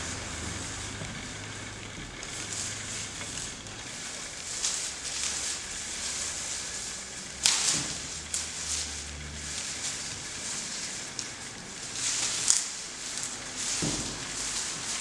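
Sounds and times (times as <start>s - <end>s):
leafy branches swishing: 0.0s - 15.0s.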